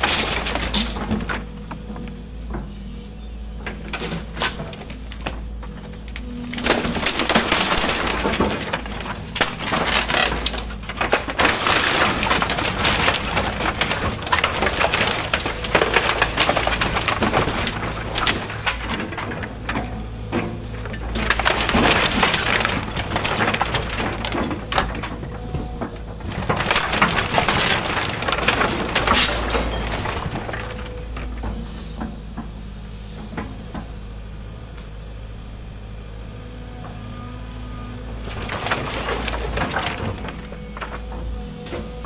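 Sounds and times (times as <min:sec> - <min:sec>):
wood cracking and splintering: 0:00.0 - 0:02.1, 0:03.6 - 0:32.1, 0:37.8 - 0:42.0
excavator engine hum: 0:00.0 - 0:42.0.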